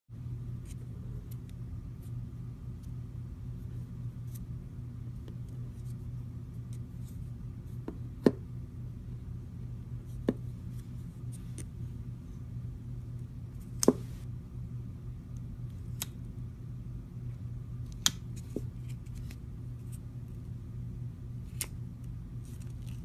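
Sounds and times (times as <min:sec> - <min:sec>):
steady low hum: 0:00.1 - 0:23.0.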